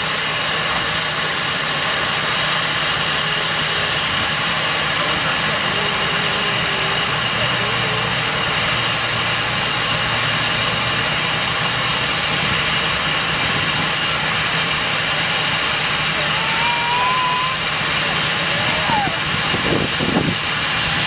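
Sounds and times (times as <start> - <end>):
steam engine hissing: 0.0 - 21.0.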